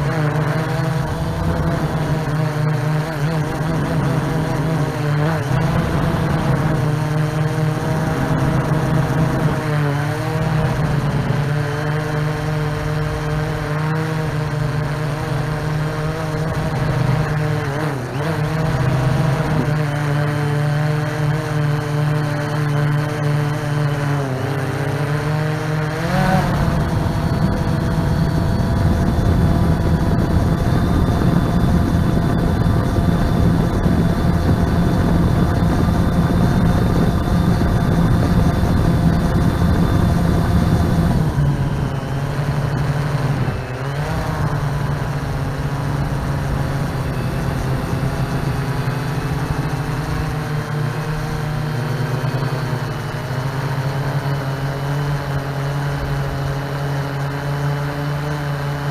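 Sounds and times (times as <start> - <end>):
drone propellers humming: 0.0 - 58.9.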